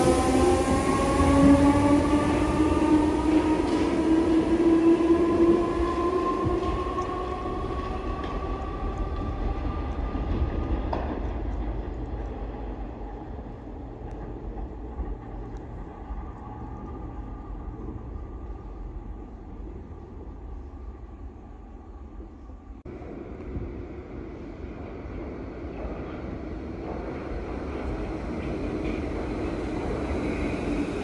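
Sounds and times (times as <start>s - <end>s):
low train rumble: 0.0s - 31.0s.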